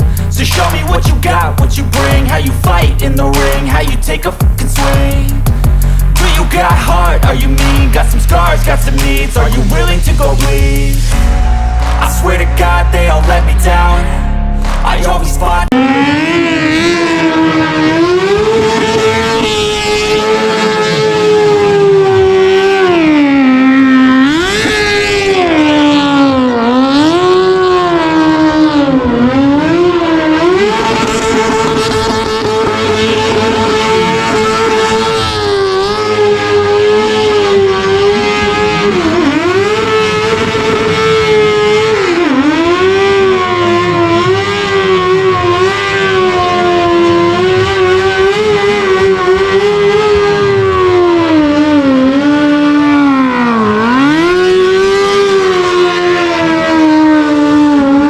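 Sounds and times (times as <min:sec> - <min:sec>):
engine revving hard: 0:00.0 - 0:11.5, 0:12.4 - 0:58.0.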